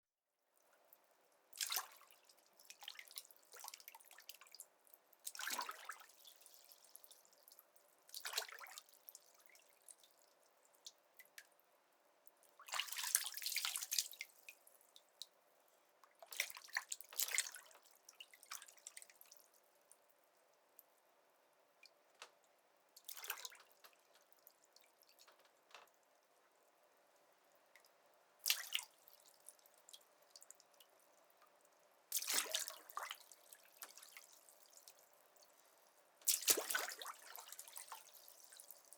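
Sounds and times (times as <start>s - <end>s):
water dripping and trickling: 0.6s - 11.6s, 12.2s - 15.4s, 16.0s - 20.1s, 21.8s - 26.0s, 27.7s - 38.9s.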